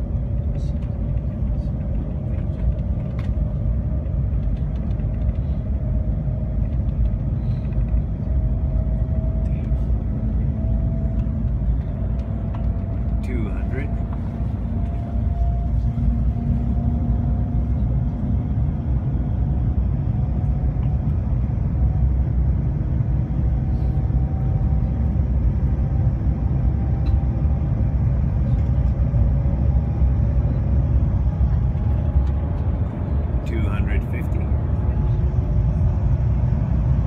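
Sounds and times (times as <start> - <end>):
train cabin low rumble: 0.0 - 37.0.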